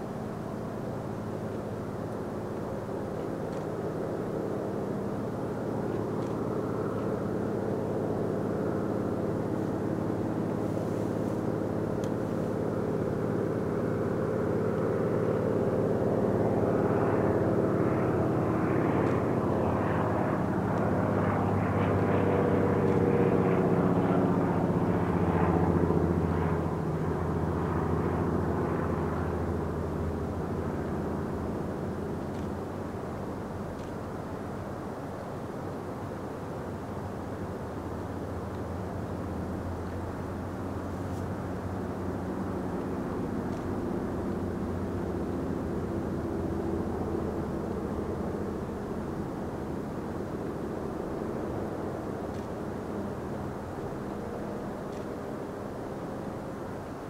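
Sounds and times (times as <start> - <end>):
electric train passing hum: 0.0 - 57.0.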